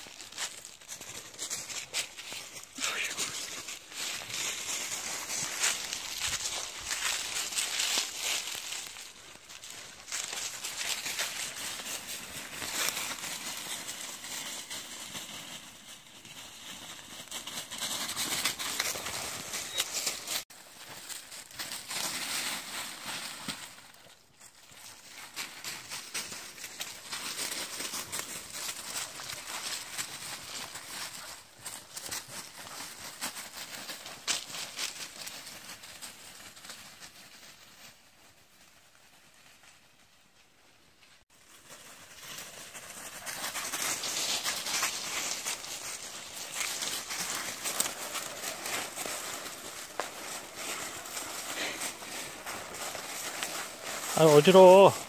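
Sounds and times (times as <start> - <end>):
dry leaves crunching underfoot: 0.0 - 38.1, 41.3 - 55.0.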